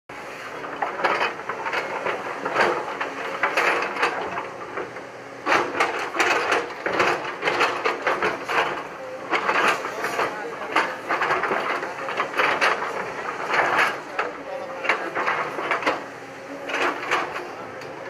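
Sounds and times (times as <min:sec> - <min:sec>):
excavator engine humming: 0:00.1 - 0:18.0.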